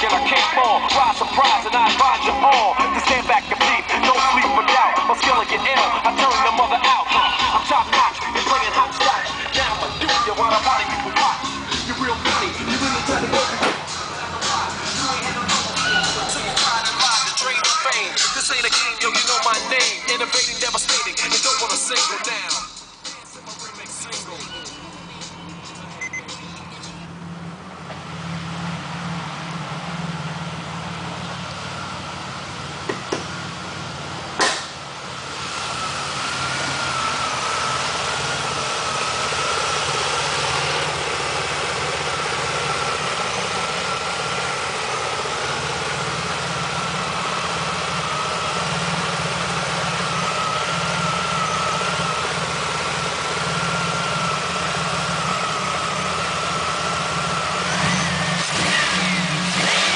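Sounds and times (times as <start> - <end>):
steady whine: 0.0 - 59.6
car engine idling: 0.0 - 59.9.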